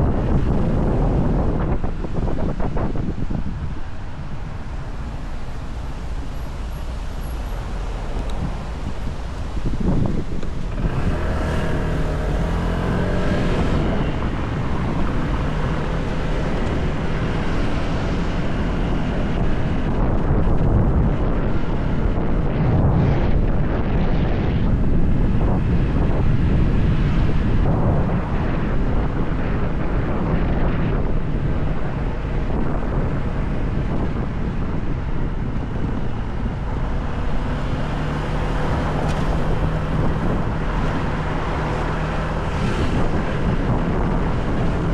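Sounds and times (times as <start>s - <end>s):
wind rush on microphone: 0.0s - 44.9s.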